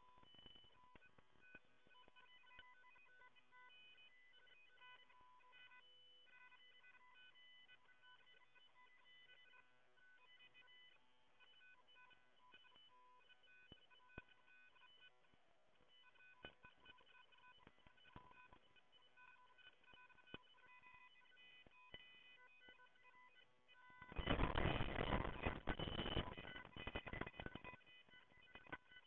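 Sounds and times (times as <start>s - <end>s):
faint electronic beeping: 0.0s - 29.0s.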